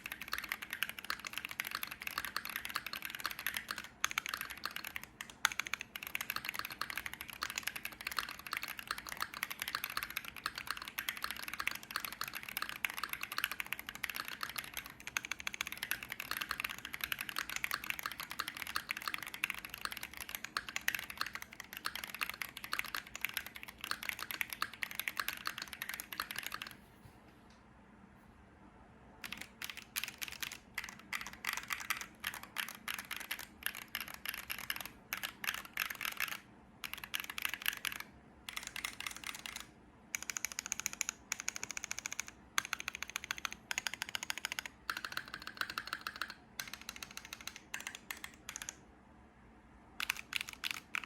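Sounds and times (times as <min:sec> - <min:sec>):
mechanical keyboard typing: 0:00.0 - 0:26.8, 0:29.2 - 0:48.8, 0:50.0 - 0:51.0.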